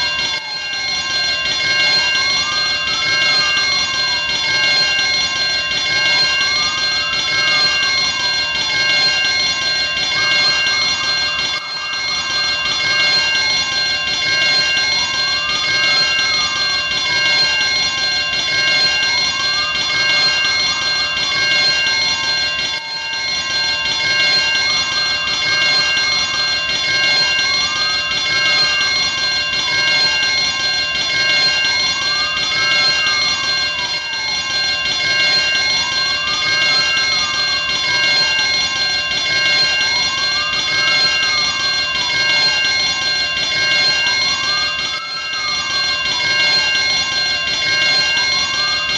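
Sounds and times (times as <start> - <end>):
fire alarm bell ringing: 0.0 - 48.9.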